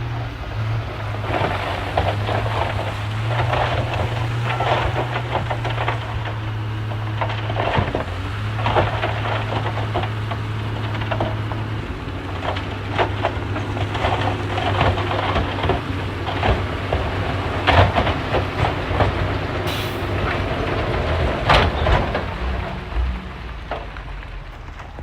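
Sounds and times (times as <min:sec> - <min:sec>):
bulldozer diesel engine running: 0:00.0 - 0:25.0
steel tracks clanking and crunching: 0:00.0 - 0:25.0.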